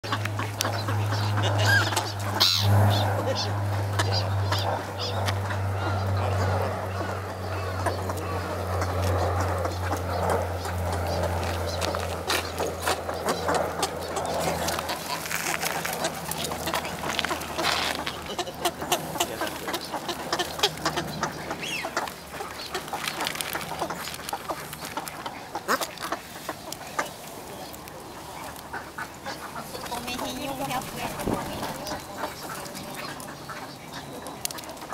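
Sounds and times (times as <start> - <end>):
ducks and gulls calling: 0.0 - 34.9
steady low hum: 0.0 - 34.9.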